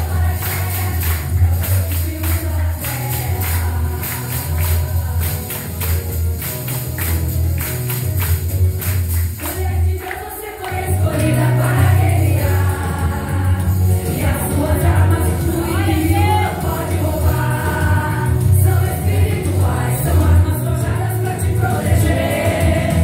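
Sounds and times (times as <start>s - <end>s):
women's choir singing gospel: 0.0s - 8.2s, 8.9s - 23.0s
low bass: 0.0s - 9.3s, 10.9s - 23.0s
tambourine strokes: 0.0s - 23.0s.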